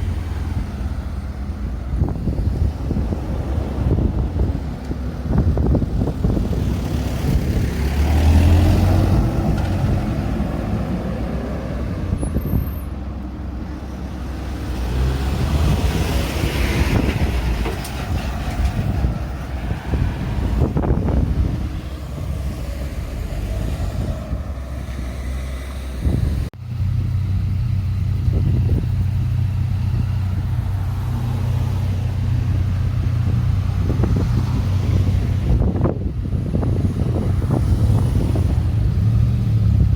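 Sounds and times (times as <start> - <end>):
cars and trucks passing: 0.0 - 39.9.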